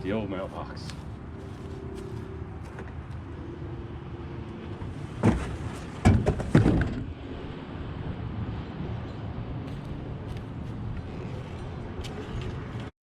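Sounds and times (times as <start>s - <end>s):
low outdoor rumble: 0.0s - 12.9s.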